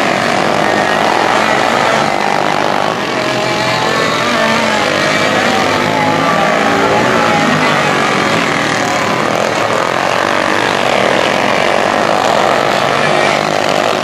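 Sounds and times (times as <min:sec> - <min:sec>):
kart engines buzzing: 0:00.0 - 0:14.0.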